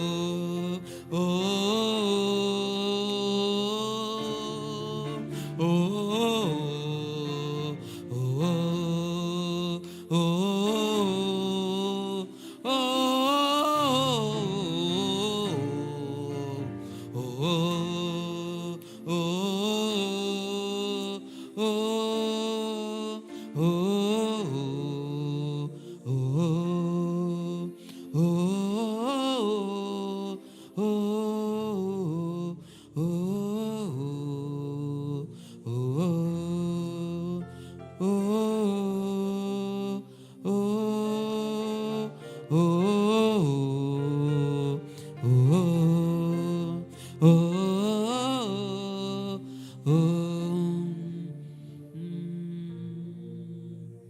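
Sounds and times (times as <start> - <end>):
person singing wordless notes: 0.0 - 54.0.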